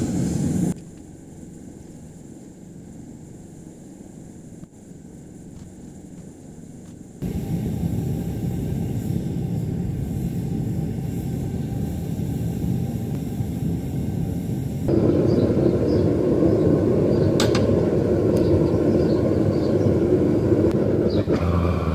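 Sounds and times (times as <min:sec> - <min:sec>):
furnace burner roaring: 0:00.0 - 0:21.9.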